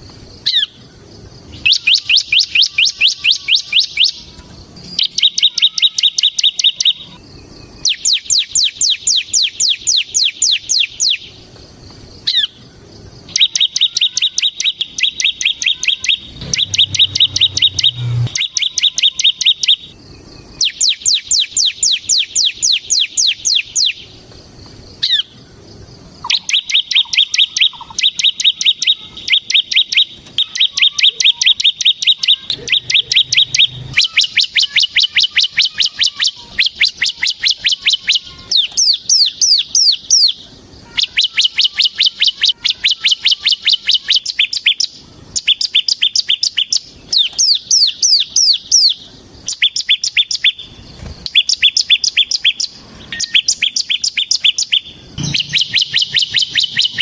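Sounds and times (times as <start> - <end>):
bird singing rapid song: 0.0 - 57.0.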